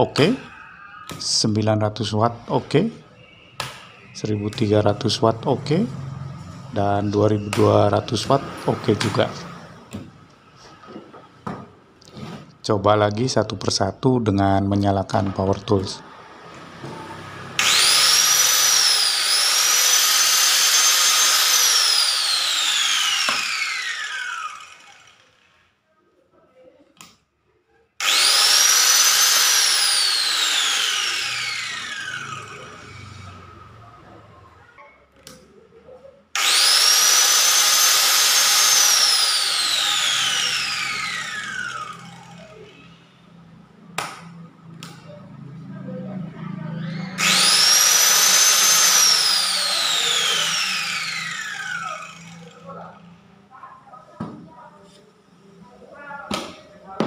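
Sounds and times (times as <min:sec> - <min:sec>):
angle grinder whining: 0:00.0 - 0:12.6, 0:14.6 - 0:25.8, 0:28.0 - 0:34.6, 0:36.3 - 0:53.6.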